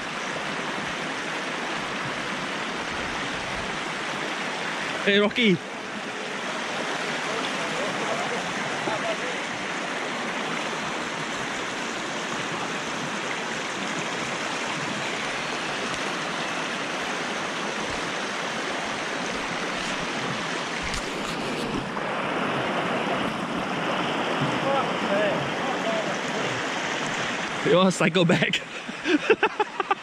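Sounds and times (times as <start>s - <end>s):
river water rushing and splashing: 0.0s - 30.0s.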